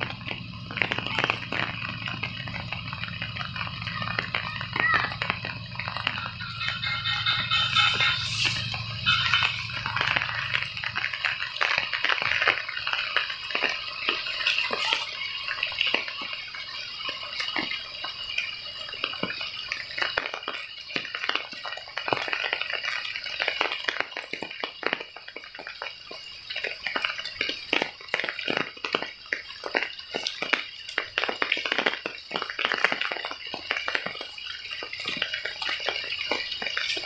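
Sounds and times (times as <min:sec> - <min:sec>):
rain pattering on leaves: 0:00.0 - 0:37.0.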